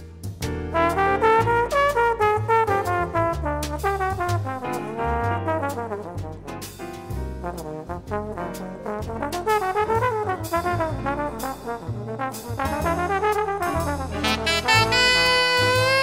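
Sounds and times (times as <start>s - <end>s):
bass: 0.0s - 16.0s
drums: 0.0s - 16.0s
trombone solo: 0.7s - 6.8s, 7.4s - 16.0s.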